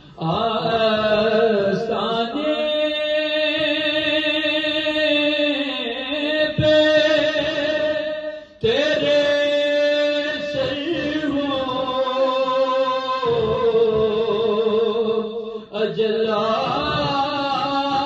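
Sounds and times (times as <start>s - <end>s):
man singing into microphone: 0.0s - 18.0s.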